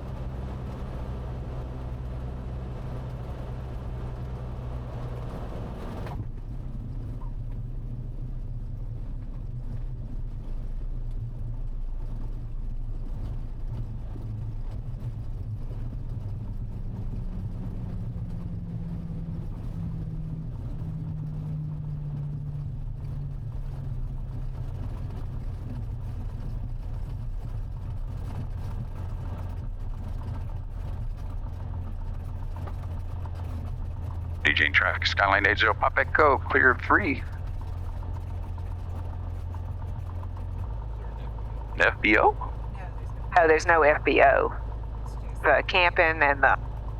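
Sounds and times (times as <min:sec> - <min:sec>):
aircraft engine droning: 0:00.0 - 0:46.9.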